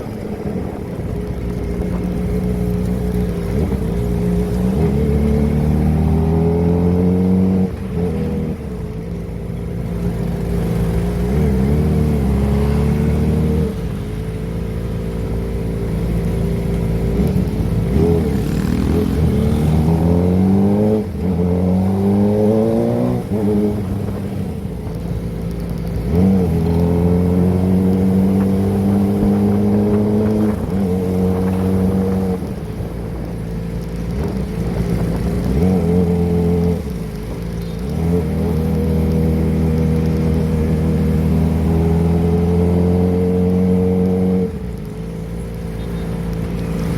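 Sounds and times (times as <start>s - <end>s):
motorcycle engine revving: 0.2s - 46.9s.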